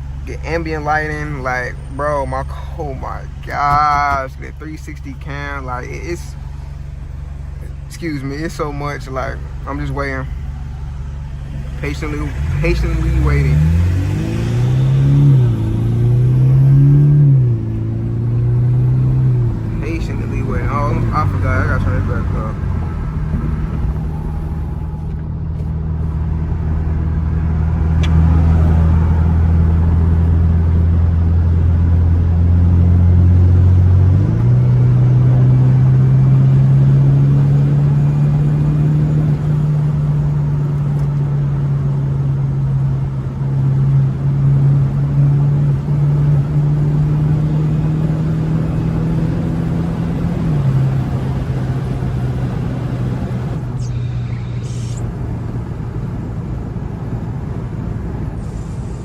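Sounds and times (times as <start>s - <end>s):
car engine while driving: 0.0s - 59.0s.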